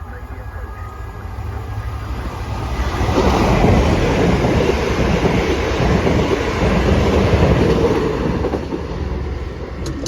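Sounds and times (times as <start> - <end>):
train passing rumble: 0.0 - 10.0.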